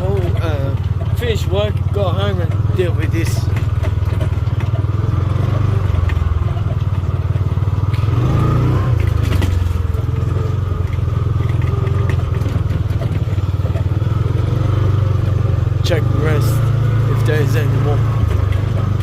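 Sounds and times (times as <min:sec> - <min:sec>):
rattles and knocks: 0:00.0 - 0:08.2, 0:08.9 - 0:19.0
farm vehicle engine running: 0:00.0 - 0:19.0.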